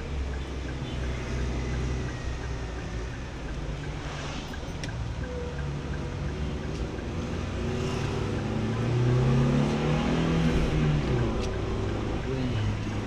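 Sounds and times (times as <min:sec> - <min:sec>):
road noise: 0:00.0 - 0:13.0
car engine pulling at low speed: 0:01.5 - 0:13.0.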